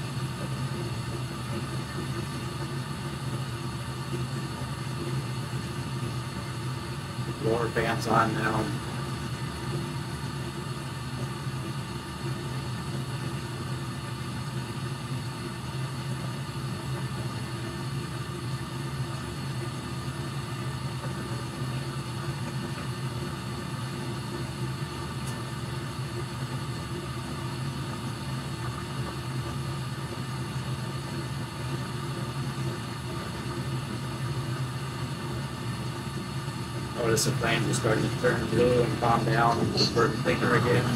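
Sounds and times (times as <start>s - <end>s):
furnace blower fan hum: 0.0s - 40.9s.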